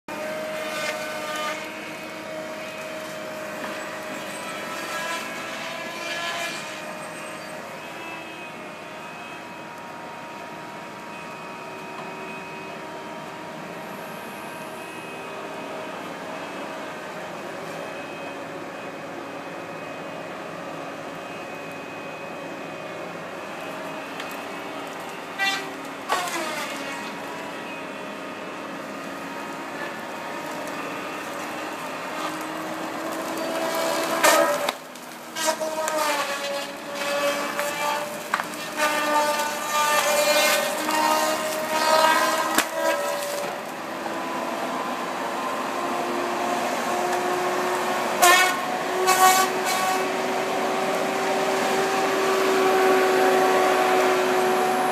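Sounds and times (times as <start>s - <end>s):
heavy machine engine droning: 0.1s - 54.9s.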